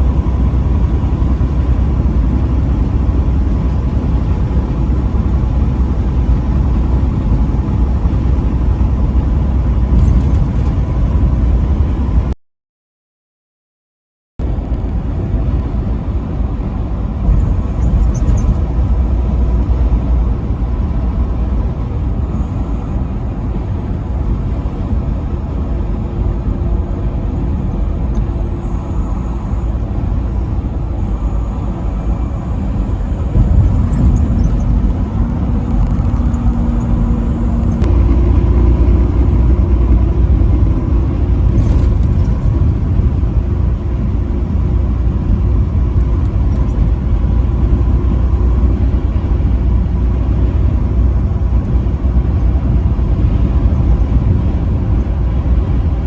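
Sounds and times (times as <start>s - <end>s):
vehicle on highway rumble: 0.0s - 12.4s, 14.4s - 56.0s.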